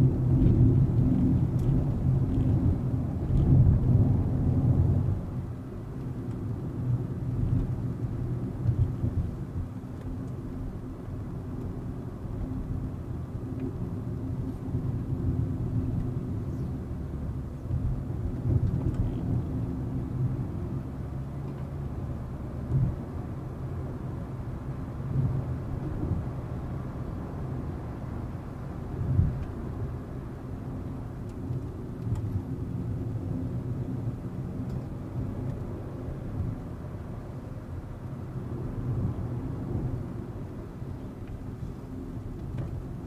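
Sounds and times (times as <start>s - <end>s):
road rumble: 0.0s - 43.0s.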